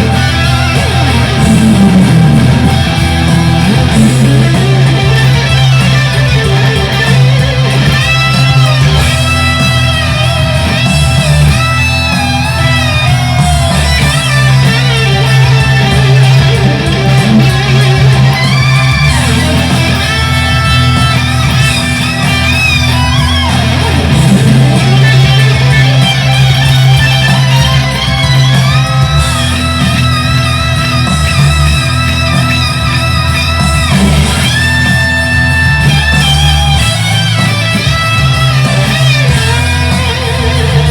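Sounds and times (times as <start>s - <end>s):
electric guitar lead with bent notes: 0.0s - 40.9s
held low bass notes: 0.0s - 40.9s.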